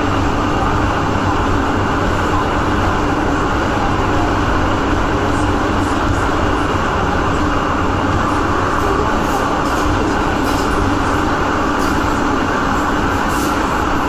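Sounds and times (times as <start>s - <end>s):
train wheels rumbling on rail: 0.0s - 14.0s
tunnel roar: 0.0s - 14.0s.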